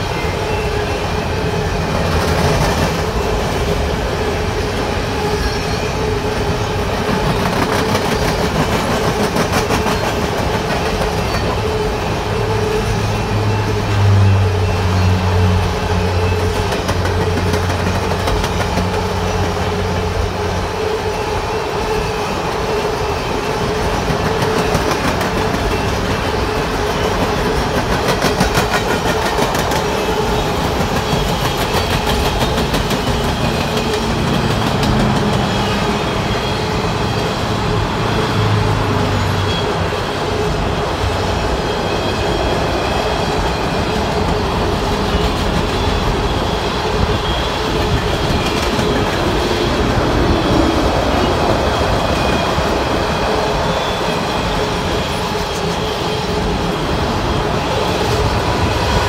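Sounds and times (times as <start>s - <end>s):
train wheels rumbling on rail: 0.0s - 59.0s
clickety-clack over rail joints: 1.4s - 39.7s, 42.1s - 59.0s.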